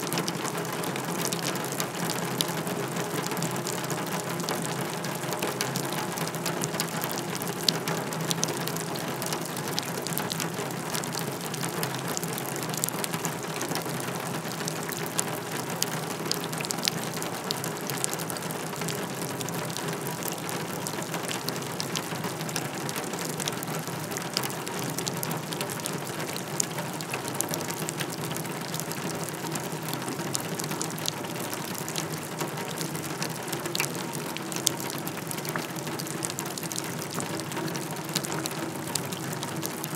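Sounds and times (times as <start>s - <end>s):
rain on a wheelbarrow: 0.0s - 39.9s.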